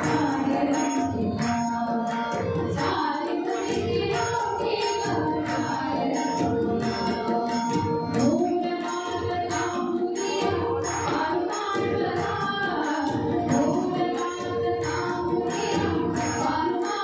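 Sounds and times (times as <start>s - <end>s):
woman singing: 0.0s - 7.6s, 8.2s - 17.0s
tabla strokes: 0.0s - 17.0s.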